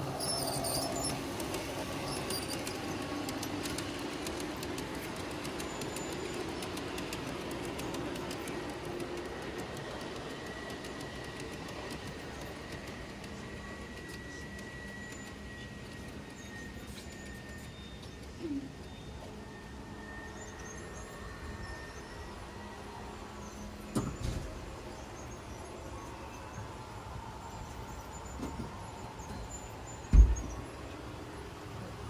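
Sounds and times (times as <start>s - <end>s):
model train wheels rumbling on rails: 0.0s - 32.0s
thin steady whine: 0.0s - 32.0s.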